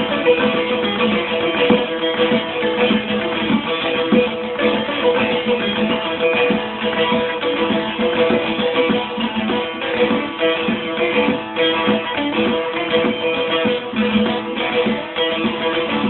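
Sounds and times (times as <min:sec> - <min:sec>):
plucked lute folk tune: 0:00.0 - 0:16.0.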